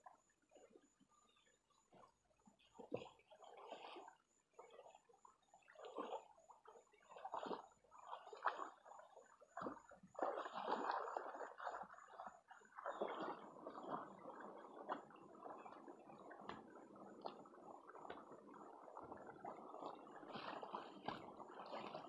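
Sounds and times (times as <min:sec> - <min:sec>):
muddy water sloshing: 0:02.6 - 0:05.0, 0:05.6 - 0:22.0.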